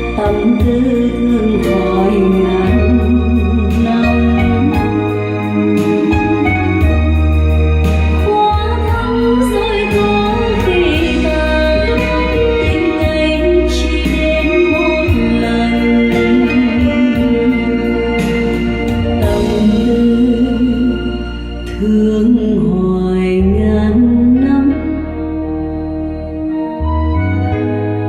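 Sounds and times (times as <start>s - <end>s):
song over loudspeakers: 0.0s - 28.0s.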